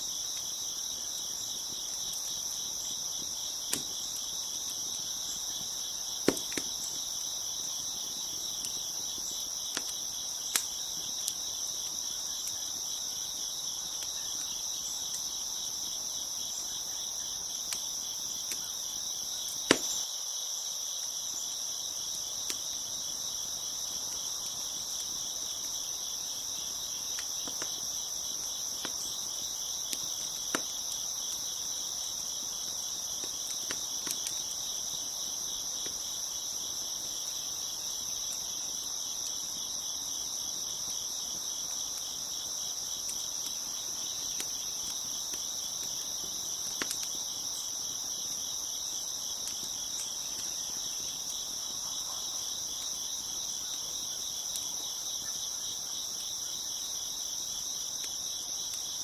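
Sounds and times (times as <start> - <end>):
wood fire crackling: 0.0 - 20.0, 20.7 - 59.0
crickets chirping: 0.0 - 59.0.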